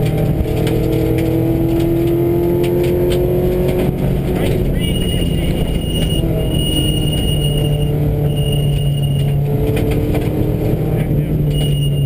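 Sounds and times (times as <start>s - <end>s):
car engine running hard: 0.0s - 12.0s
tyres on gravel road: 0.0s - 12.0s.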